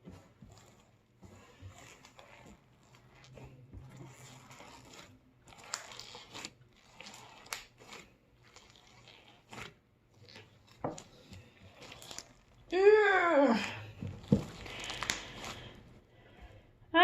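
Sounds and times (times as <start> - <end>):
slime crunching and crackling: 0.0 - 16.6.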